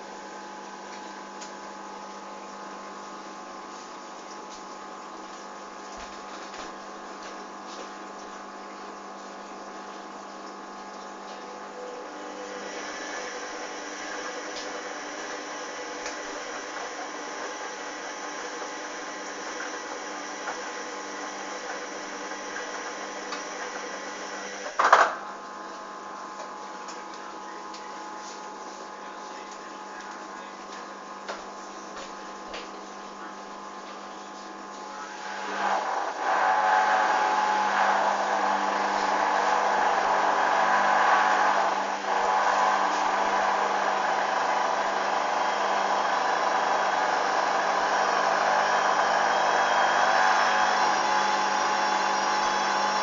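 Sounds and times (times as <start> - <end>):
washing machine motor hum: 0.0 - 53.0.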